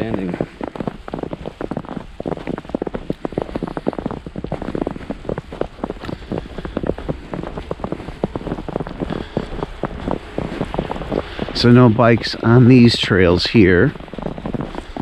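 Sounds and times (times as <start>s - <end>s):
boots crunching through snow: 0.0s - 15.0s
low wind rumble: 0.0s - 15.0s.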